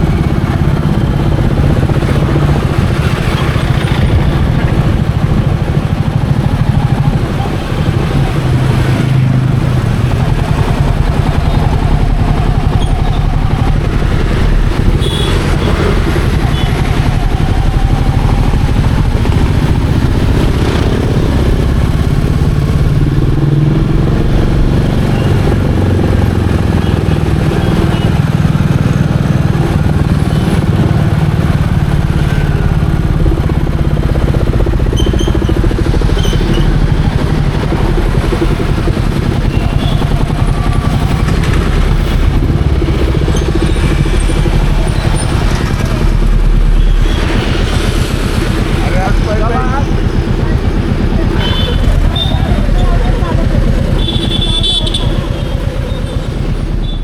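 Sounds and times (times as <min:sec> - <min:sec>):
motorcycle engine running: 0:00.0 - 0:57.0
road noise: 0:00.0 - 0:57.0
wind noise: 0:00.0 - 0:57.0.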